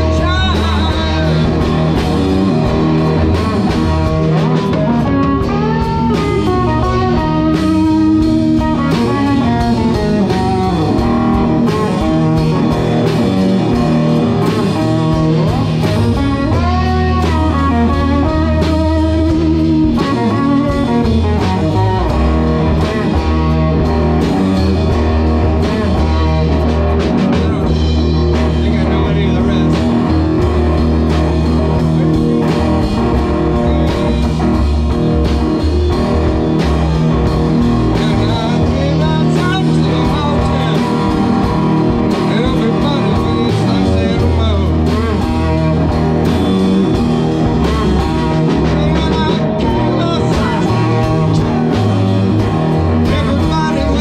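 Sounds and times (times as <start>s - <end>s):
bass notes: 0.0s - 54.0s
drum kit beat: 0.0s - 54.0s
electric guitars: 0.0s - 54.0s
lead guitar bends: 0.0s - 54.0s.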